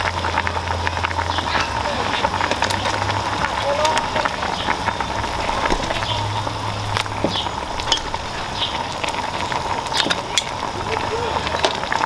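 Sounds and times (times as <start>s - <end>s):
broth boiling in pot: 0.0s - 12.0s.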